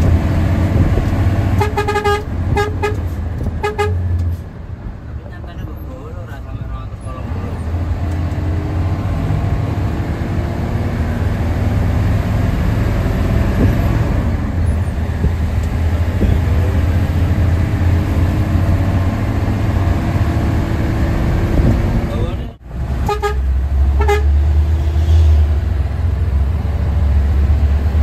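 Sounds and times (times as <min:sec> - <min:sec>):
diesel engine drone: 0:00.0 - 0:28.0
road noise: 0:00.0 - 0:28.0.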